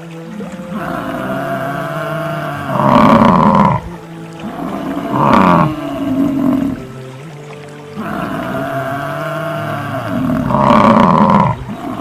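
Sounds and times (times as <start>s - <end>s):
steady background music: 0.0s - 12.0s
large animal roaring: 0.7s - 6.9s, 8.0s - 12.0s.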